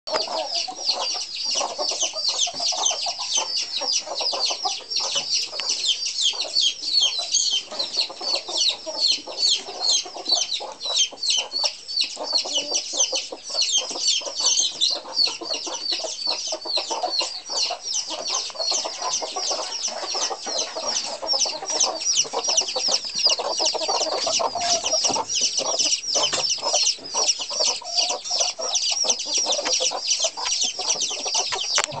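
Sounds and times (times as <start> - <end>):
chicks peeping: 0.1 - 32.0
hens clucking: 0.1 - 32.0.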